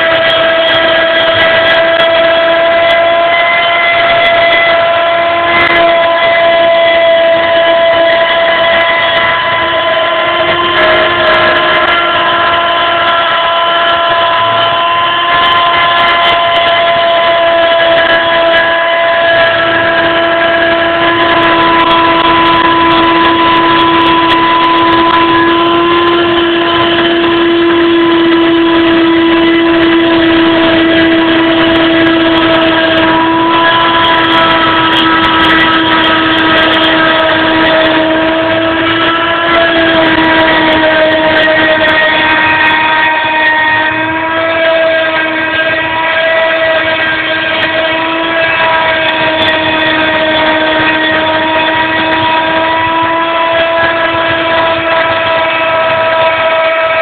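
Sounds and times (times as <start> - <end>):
milling machine spindle whining: 0.0 - 57.0.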